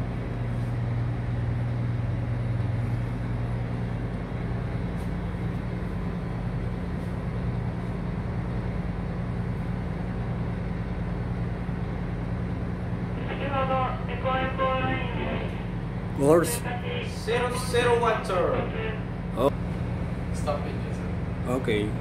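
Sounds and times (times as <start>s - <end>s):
ship engine humming: 0.0s - 22.0s.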